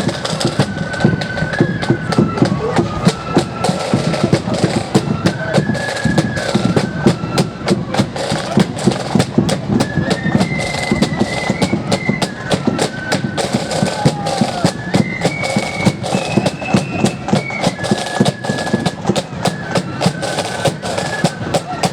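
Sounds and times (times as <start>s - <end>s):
flute melody: 0.0s - 21.9s
rapid snare drumming: 0.0s - 21.9s.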